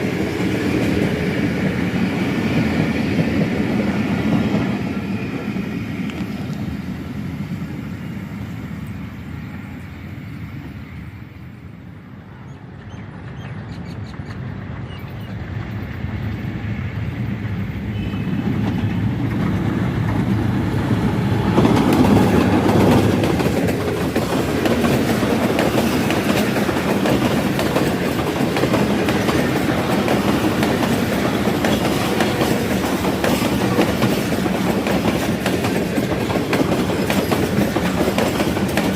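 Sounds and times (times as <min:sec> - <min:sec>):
train wheels clattering on rails: 0:00.0 - 0:07.3, 0:12.8 - 0:38.9.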